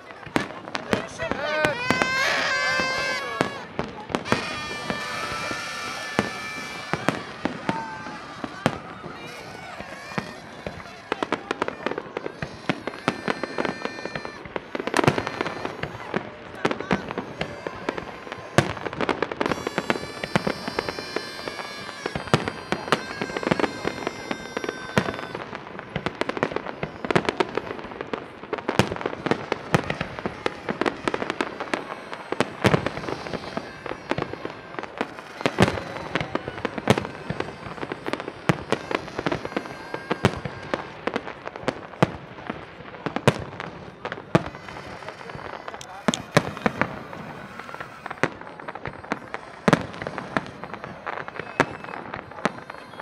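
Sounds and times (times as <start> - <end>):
fireworks bursting with sharp bangs: 0.0 - 53.0.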